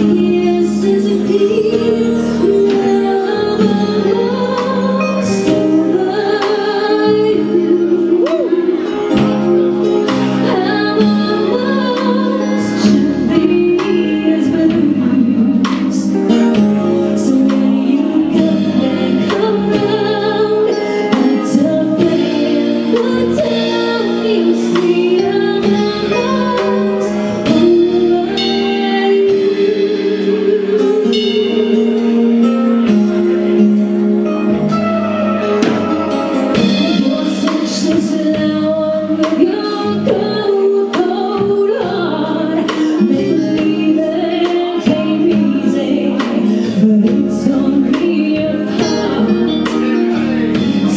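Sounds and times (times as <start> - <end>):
woman singing into a microphone: 0.0 - 34.6, 35.7 - 50.9
drums: 0.0 - 50.9
electric guitar: 0.0 - 50.9
keyboard: 0.0 - 50.9.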